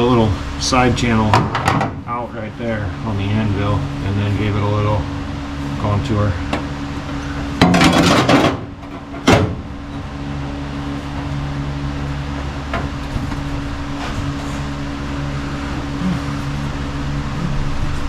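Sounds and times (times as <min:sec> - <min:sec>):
mechanical hum: 0:00.0 - 0:18.0
metal panel scraping: 0:01.0 - 0:18.0.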